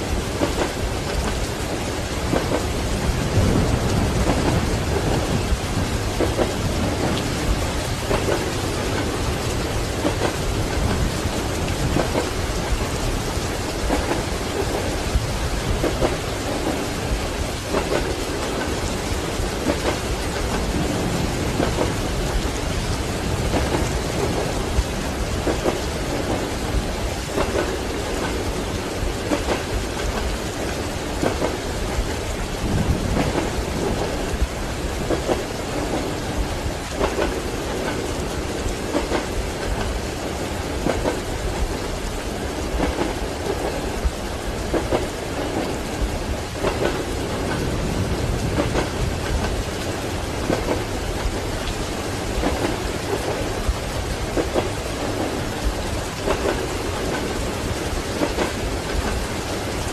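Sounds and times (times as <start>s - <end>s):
thunder rumbling: 0.0s - 41.8s, 42.4s - 59.9s
heavy rain: 0.0s - 59.9s
train wheels clacking: 0.0s - 59.9s.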